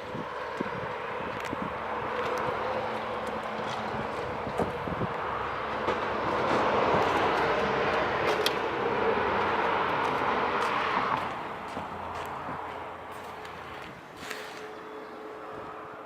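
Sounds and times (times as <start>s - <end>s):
vehicle noise: 0.0s - 16.0s.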